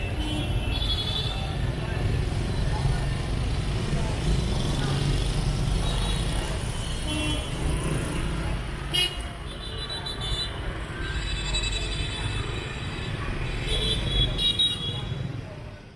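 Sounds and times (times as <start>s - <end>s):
rumble of passing vehicles: 0.0s - 15.9s.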